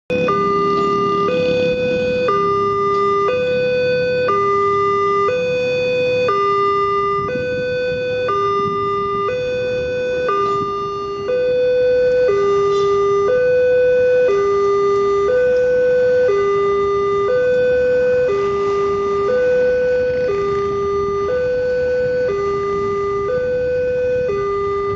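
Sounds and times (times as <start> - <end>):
two-tone crossing alarm: 0.1 - 24.9.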